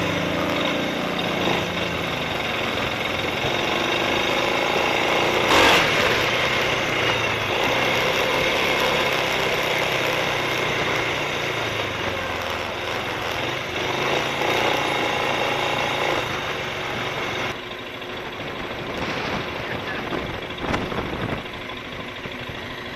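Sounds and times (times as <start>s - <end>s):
atv engine running: 0.0s - 22.9s.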